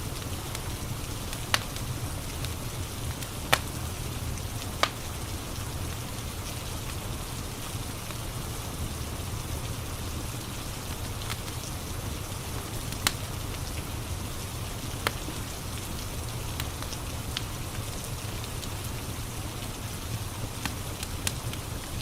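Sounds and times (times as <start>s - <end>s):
steady rain: 0.0s - 22.0s
wood fire crackling and popping: 0.0s - 22.0s.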